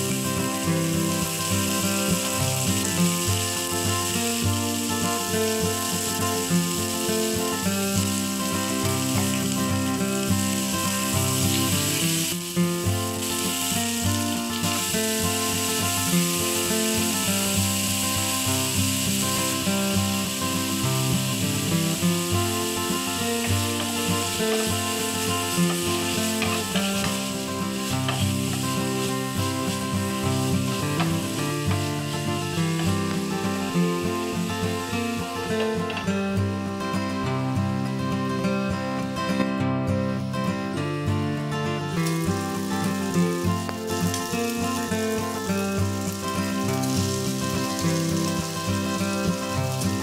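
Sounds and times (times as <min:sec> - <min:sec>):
meat sizzling in a frying pan: 0:00.0 - 0:36.3, 0:41.9 - 0:50.0
background music: 0:00.0 - 0:50.0.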